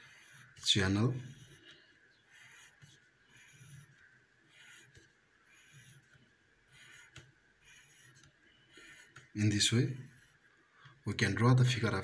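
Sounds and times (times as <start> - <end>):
pencil scratching on paper: 0.0 - 10.6.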